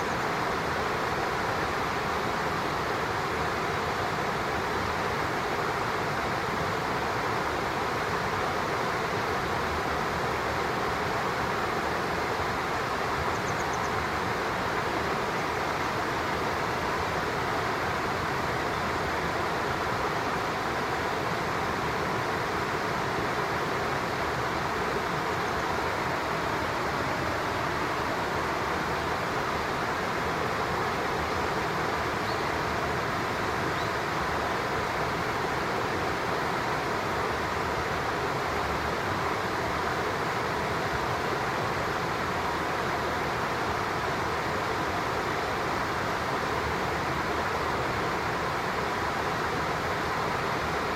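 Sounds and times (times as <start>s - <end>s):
flowing water rushing: 0.0s - 50.9s
stream running over rocks: 0.0s - 50.9s.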